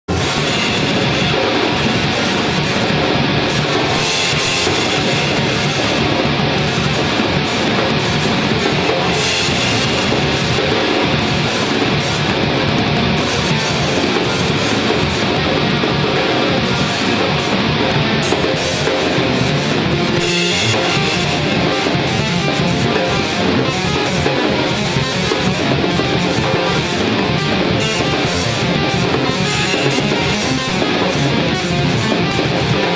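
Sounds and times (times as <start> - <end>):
heavy metal rock music: 0.0 - 32.9.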